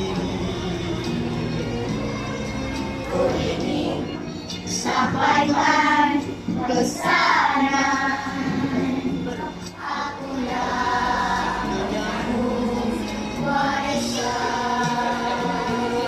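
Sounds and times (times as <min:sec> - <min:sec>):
musical accompaniment: 0:00.0 - 0:16.0
children's choir singing: 0:03.0 - 0:16.0.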